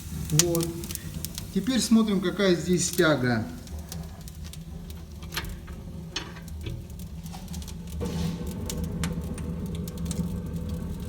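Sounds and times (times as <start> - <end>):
firewood crackling and popping: 0.0 - 11.0
low rumble of fire: 0.0 - 11.0.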